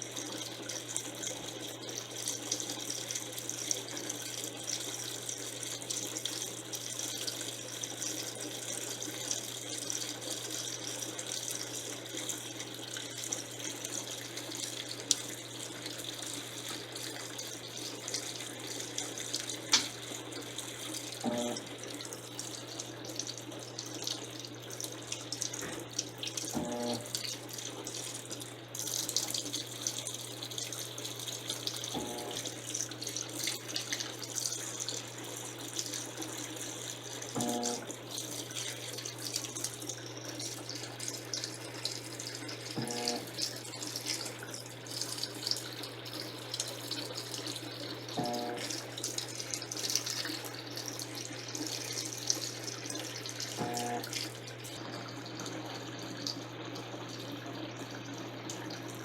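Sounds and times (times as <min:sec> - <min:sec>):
washing machine low hum: 0:00.0 - 0:59.0.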